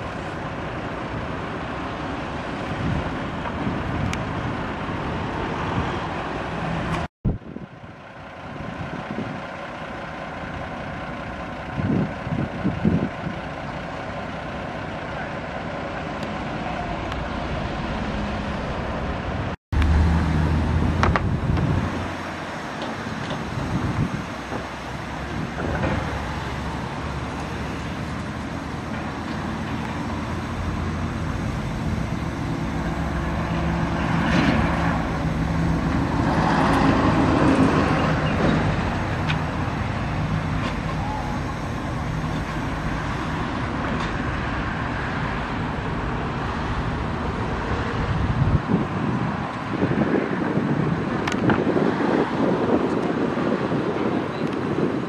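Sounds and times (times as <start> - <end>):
engine running low: 0.0 - 55.0
passing road traffic: 0.0 - 55.0.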